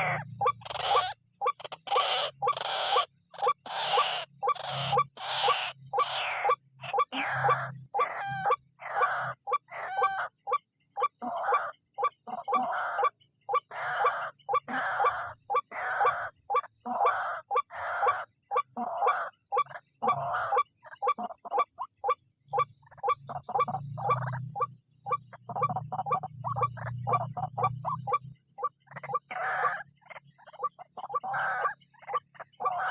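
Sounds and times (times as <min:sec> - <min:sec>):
waterhen harsh calls: 0:00.0 - 0:10.3, 0:11.0 - 0:13.1, 0:13.7 - 0:29.9, 0:30.5 - 0:32.9.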